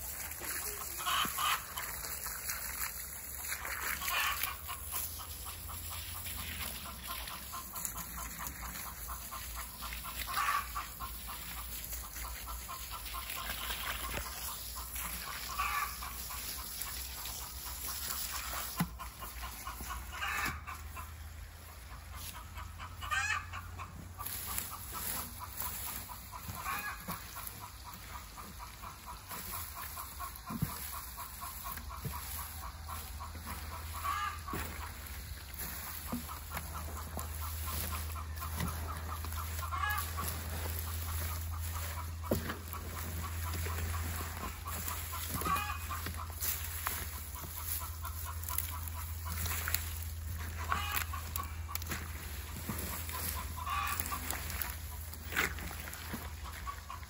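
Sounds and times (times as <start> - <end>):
hose water pouring: 0.0 - 20.7, 24.2 - 57.0
chickens clucking: 0.0 - 57.0.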